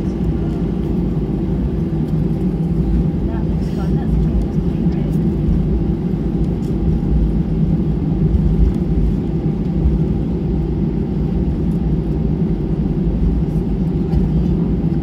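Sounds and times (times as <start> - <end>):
airplane engines rumbling: 0.0 - 15.0.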